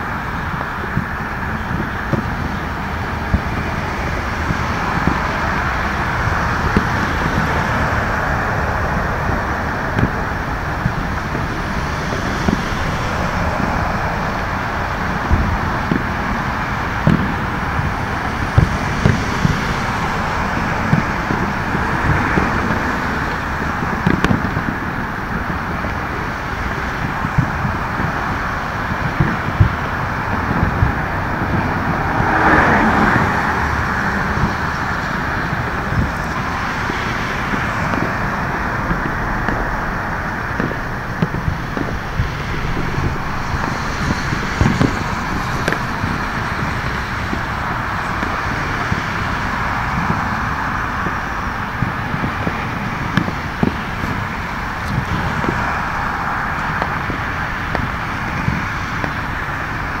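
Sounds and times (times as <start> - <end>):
distant fireworks banging: 0.0 - 60.0
road traffic rushing: 0.0 - 60.0.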